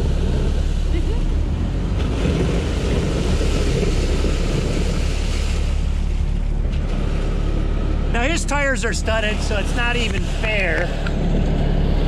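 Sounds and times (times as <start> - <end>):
diesel engine droning: 0.0 - 12.0
tyres splashing through water and ice: 0.0 - 12.0.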